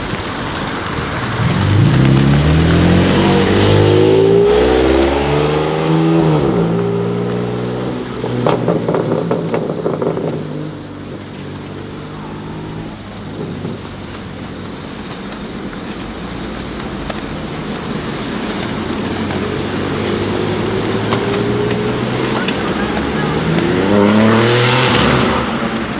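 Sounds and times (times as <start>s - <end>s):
car engine revving: 0.0s - 25.9s
rapid sharp cracks: 0.0s - 25.9s.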